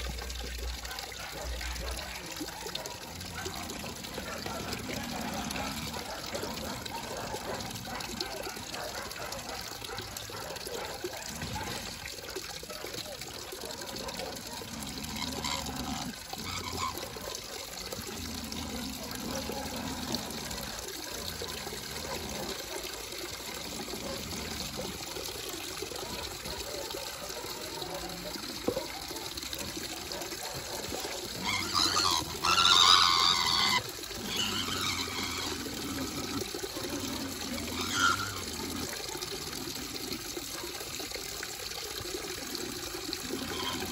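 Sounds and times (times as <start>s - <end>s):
water running into plastic basin: 0.0s - 43.9s.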